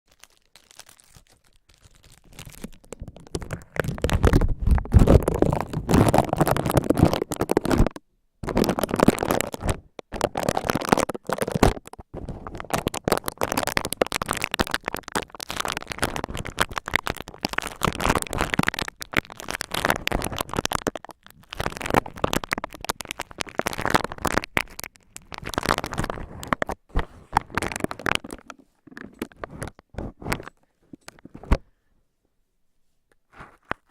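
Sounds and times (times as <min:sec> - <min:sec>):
cloth crinkling against microphone: 0:00.0 - 0:31.6.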